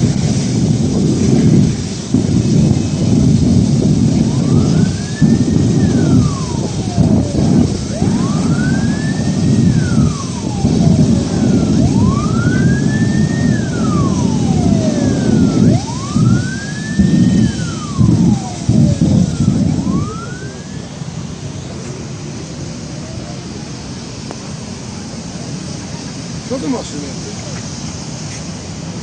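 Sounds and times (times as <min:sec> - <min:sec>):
emergency siren wailing: 0:00.0 - 0:27.4
heavy low rumble: 0:00.0 - 0:29.0.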